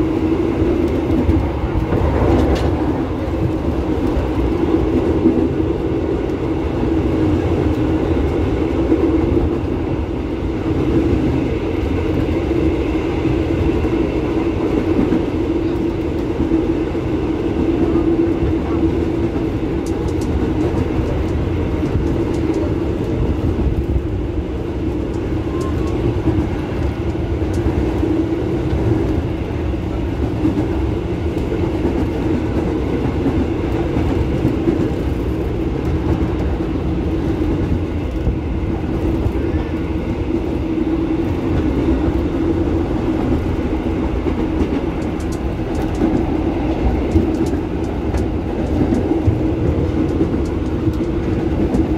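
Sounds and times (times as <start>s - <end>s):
electric train running: 0.0s - 51.9s.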